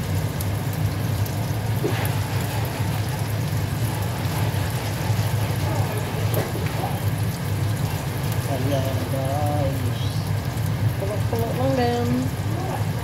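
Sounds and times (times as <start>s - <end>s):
food sizzling in hot oil: 0.0s - 13.0s
steady low hum: 0.0s - 13.0s.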